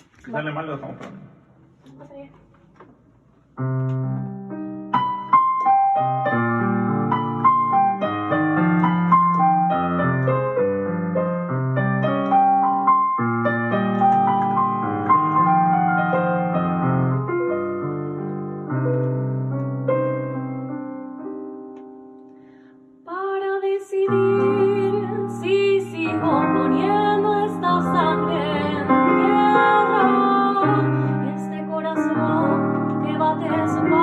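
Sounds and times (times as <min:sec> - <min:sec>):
solo piano: 0:03.2 - 0:34.0.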